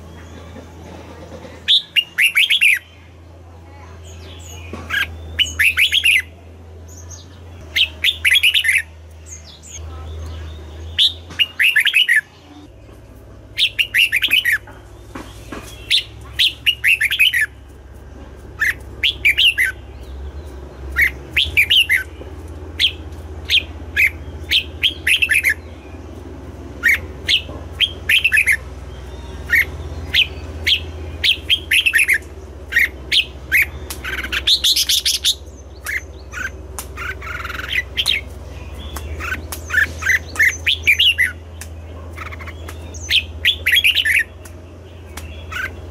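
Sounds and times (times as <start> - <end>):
bulbul singing: 0.0 - 45.9
steady low hum: 0.0 - 45.9.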